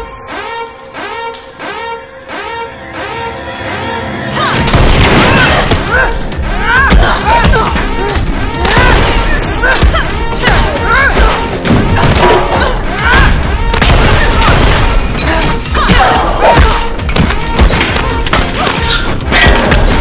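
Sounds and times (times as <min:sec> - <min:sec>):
action music: 0:00.0 - 0:20.0.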